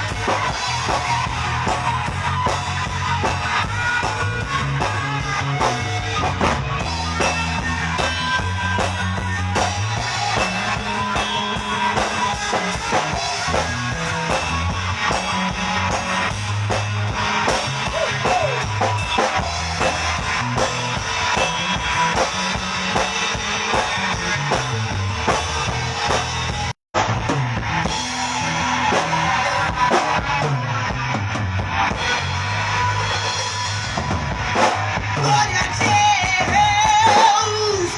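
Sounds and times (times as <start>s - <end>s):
bass line: 0.0s - 37.9s
drum kit: 0.0s - 37.9s
guitar: 0.0s - 37.9s.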